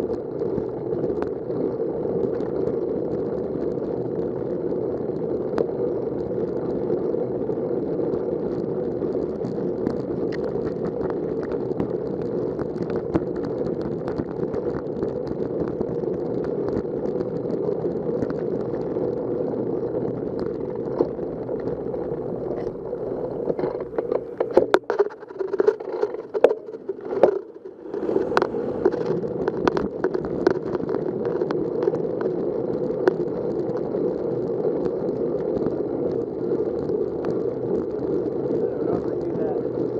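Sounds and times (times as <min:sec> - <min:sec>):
bicycle tyre noise: 0:00.0 - 0:39.9
rushing wind: 0:00.0 - 0:39.9.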